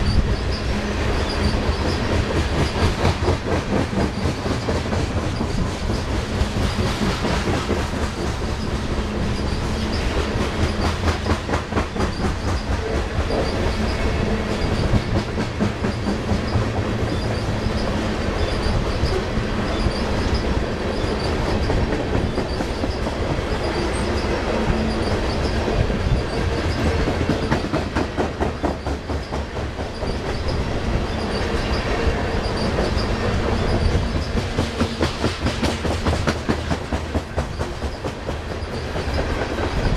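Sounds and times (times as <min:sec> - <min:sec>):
steel wheels rumbling on rail: 0:00.0 - 0:39.9
wheels clicking over rail joints: 0:00.0 - 0:39.9.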